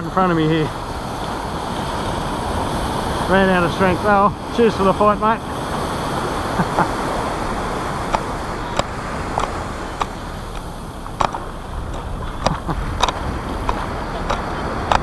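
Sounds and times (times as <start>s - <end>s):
surf washing: 0.0s - 15.0s
wind: 0.0s - 15.0s.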